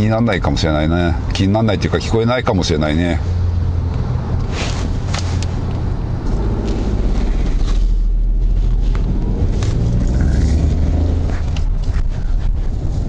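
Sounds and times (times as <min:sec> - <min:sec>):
car engine rumbling: 0:00.0 - 0:13.0
road noise: 0:00.0 - 0:13.0.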